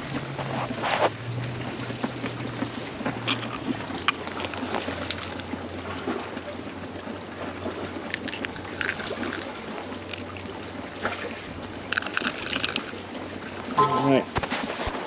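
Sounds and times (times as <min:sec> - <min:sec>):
water noise: 0:00.0 - 0:15.0.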